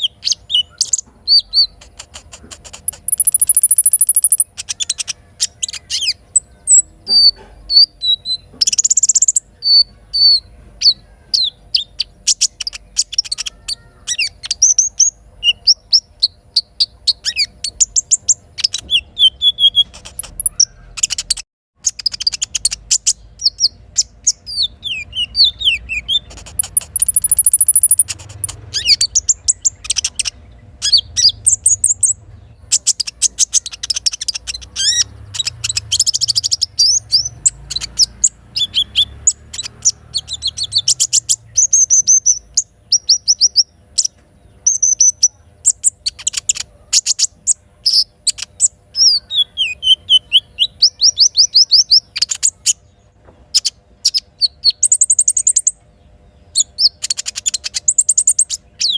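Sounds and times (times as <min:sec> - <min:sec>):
bird singing high chirps and trills: 0:00.0 - 0:58.9.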